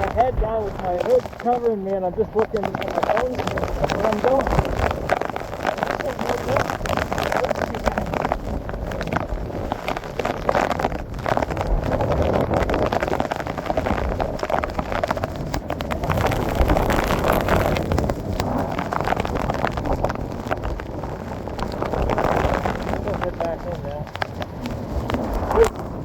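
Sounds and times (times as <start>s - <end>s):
heavy rain: 0.0s - 26.0s
wind buffeting microphone: 0.0s - 26.0s.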